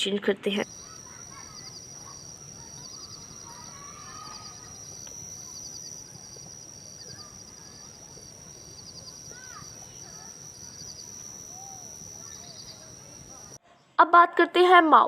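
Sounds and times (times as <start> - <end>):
faint bird calls: 0.6 - 13.6
high-pitched insect drone: 0.6 - 13.6.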